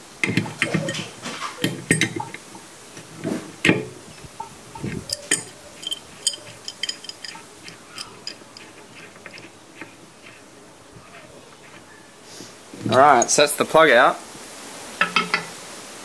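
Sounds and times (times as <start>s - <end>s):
metal wrenches clicking: 0.0s - 11.9s, 12.8s - 13.4s, 15.0s - 15.5s.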